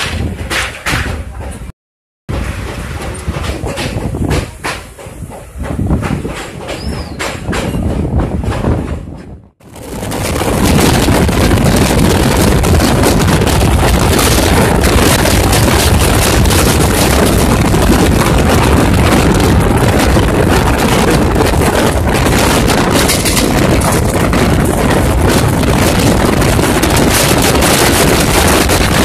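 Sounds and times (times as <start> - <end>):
train rumble: 0.0 - 1.7, 2.3 - 29.0
wind buffeting microphone: 2.3 - 29.0.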